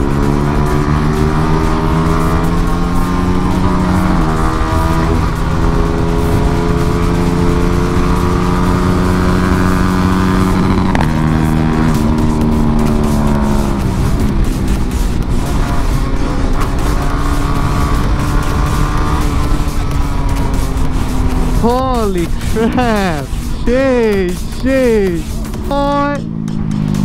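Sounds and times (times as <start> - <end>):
motorcycle engine revving: 0.0 - 23.6, 25.2 - 27.0.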